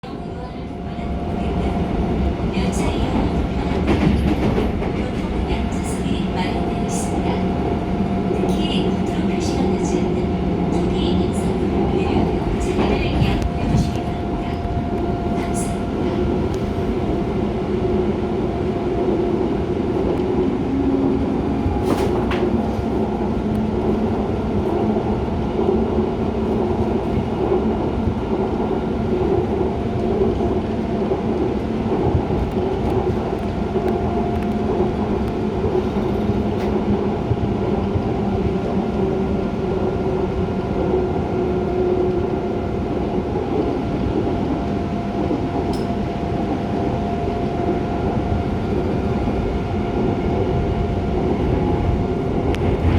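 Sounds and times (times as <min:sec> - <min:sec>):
train wheels rumbling on track: 0:00.0 - 0:52.9.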